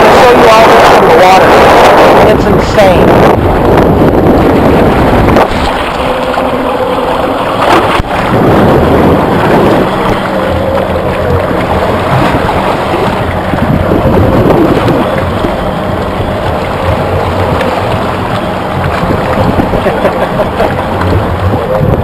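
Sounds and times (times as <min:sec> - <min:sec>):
boat engine humming: 0:00.0 - 0:22.0
sea water sloshing: 0:00.0 - 0:22.0
wind buffeting microphone: 0:00.0 - 0:22.0.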